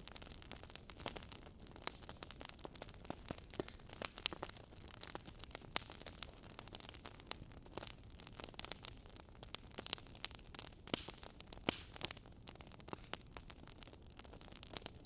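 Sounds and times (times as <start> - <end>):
soft steady hiss: 0.0 - 15.0
wood fire crackling and popping: 0.0 - 15.0.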